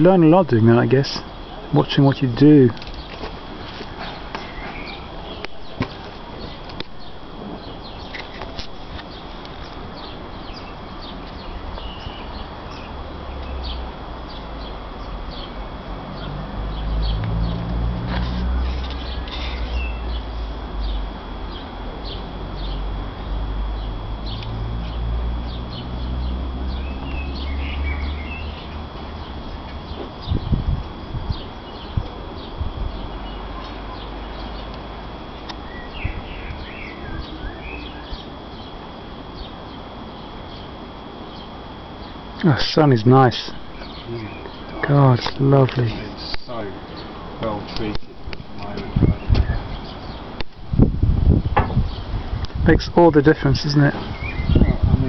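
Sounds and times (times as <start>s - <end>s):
birds chirping and singing: 0.0s - 47.9s, 48.6s - 50.4s, 51.4s - 52.3s, 53.0s - 55.0s
steady low rumble: 8.7s - 55.0s.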